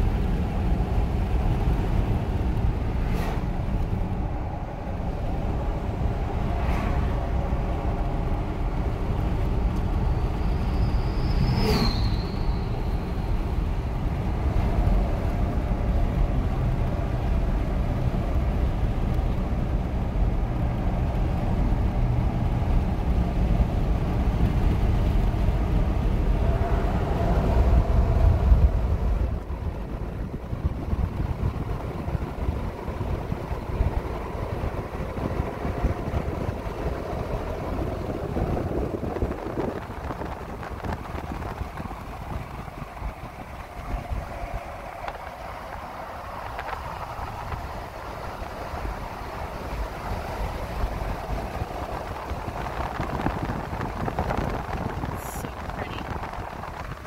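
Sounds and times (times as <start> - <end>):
car engine and tyre rumble: 0.0 - 57.0
rushing road noise: 0.0 - 57.0.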